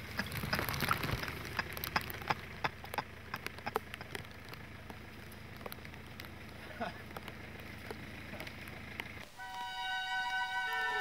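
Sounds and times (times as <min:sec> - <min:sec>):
rain drops tapping: 0:00.0 - 0:11.0.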